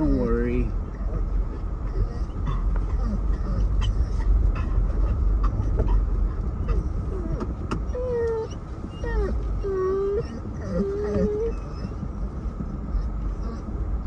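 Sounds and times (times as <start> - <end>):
car driving rumble from inside: 0.0 - 14.0
dog whining: 1.8 - 13.7.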